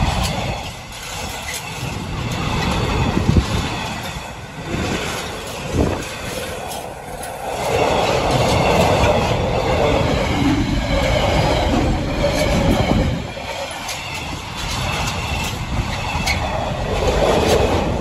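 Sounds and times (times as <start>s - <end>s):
sharp rail clicks: 0.0s - 18.0s
train wheels rumbling on rail: 0.0s - 18.0s.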